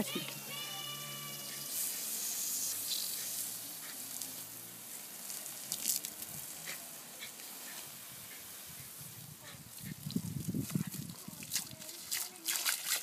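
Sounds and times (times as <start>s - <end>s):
hose water spray hissing: 0.0s - 13.0s
water splashes: 0.0s - 13.0s.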